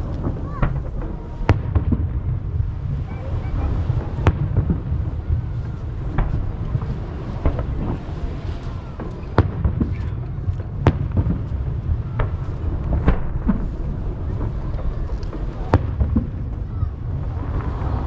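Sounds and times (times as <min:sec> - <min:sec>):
low rumble of echoing bursts: 0:00.0 - 0:18.0.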